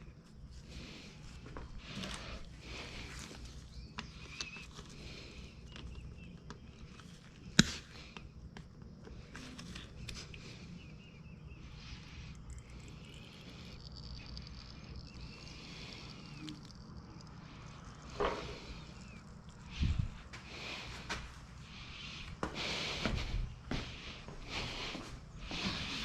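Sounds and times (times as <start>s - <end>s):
faint chirping: 0.0s - 22.2s.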